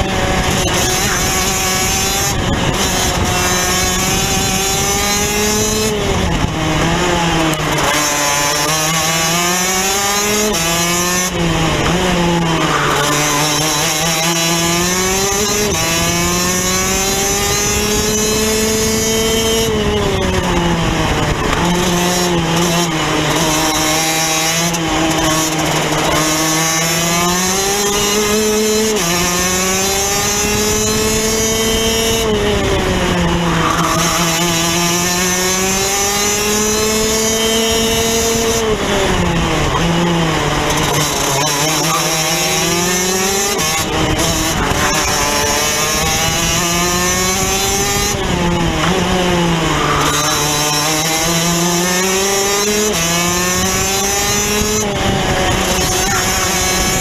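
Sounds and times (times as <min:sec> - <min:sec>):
kart two-stroke engine revving: 0:00.0 - 0:57.0.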